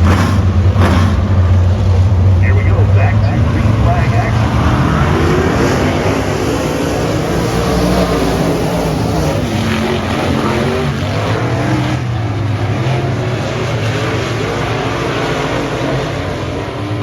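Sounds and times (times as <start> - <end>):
race car engines running: 0.0 - 17.0.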